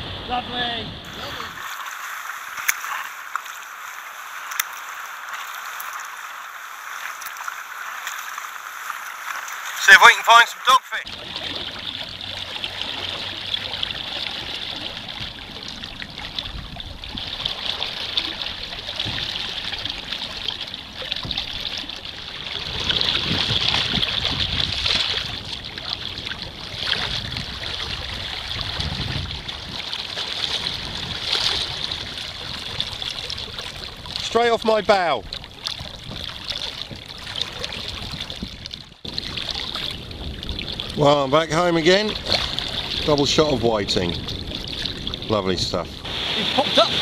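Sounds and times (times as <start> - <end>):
water lapping against kayak hull: 0.0 - 47.0.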